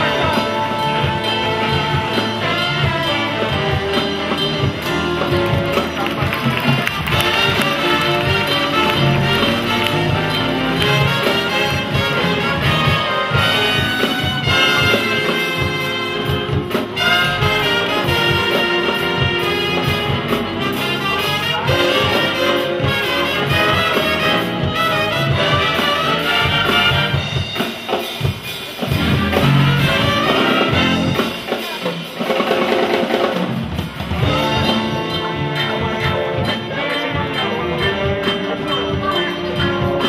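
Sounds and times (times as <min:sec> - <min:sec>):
brass circus band music: 0:00.0 - 0:40.0.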